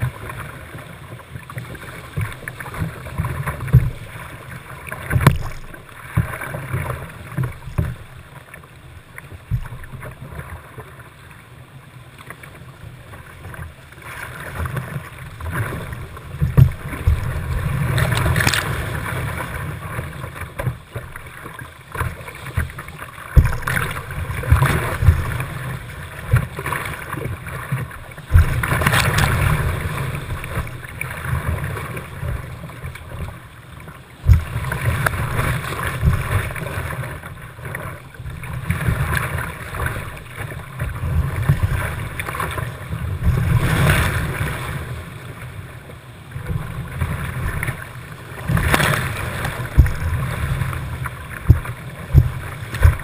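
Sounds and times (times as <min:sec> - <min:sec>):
water splashing on a hull: 0:00.0 - 0:53.0.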